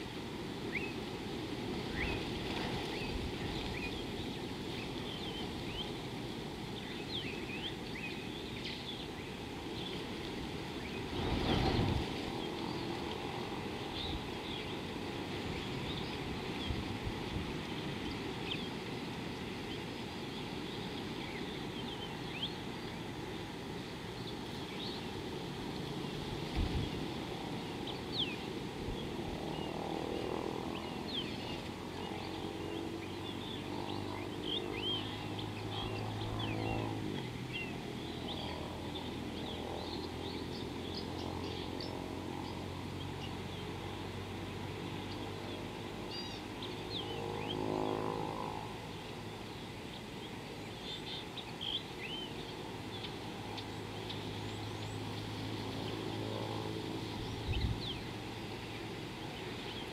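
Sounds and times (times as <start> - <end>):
small birds chirping: 1.7 - 59.9.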